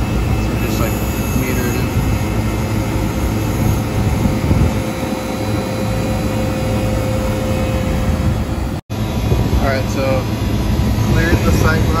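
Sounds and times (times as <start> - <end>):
condenser fan and compressor: 0.0 - 12.0.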